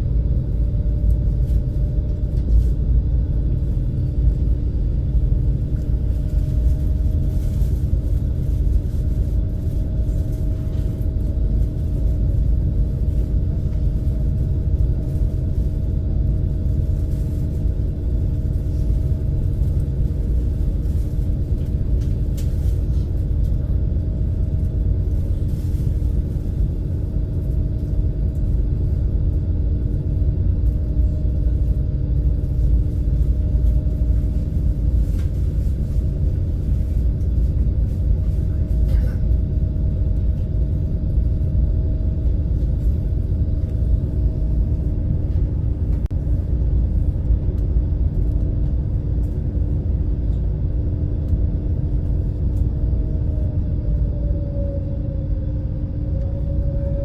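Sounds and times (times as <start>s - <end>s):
ferry engines rumbling: 0.0s - 57.0s.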